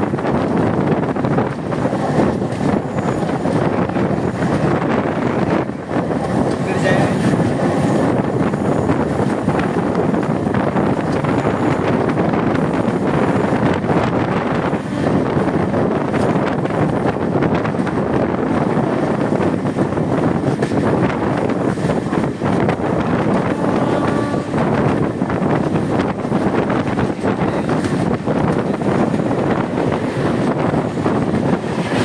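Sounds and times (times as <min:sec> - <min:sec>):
moving train running noise: 0:00.0 - 0:32.0
wind buffeting microphone: 0:00.0 - 0:32.0.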